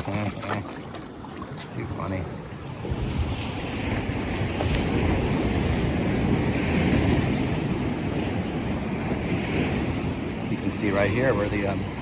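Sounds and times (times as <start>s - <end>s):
surf on rocky shore: 0.0s - 12.0s
wind buffeting microphone: 1.1s - 12.0s.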